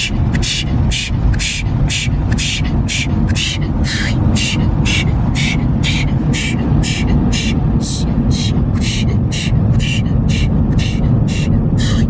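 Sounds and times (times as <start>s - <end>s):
car wash machinery rumble: 0.0s - 12.0s
rhythmic pulsing hiss: 0.0s - 12.0s.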